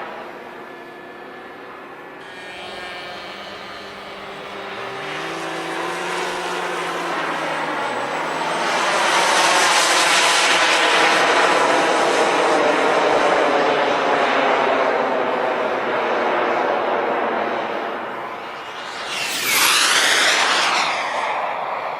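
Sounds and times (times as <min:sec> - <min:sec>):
model jet engine rushing: 0:02.1 - 0:21.9.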